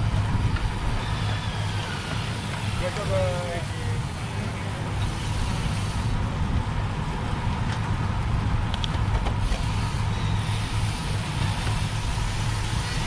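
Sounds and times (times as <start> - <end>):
bicycle tyre noise: 0.0 - 13.0
wind rumble: 0.0 - 13.0.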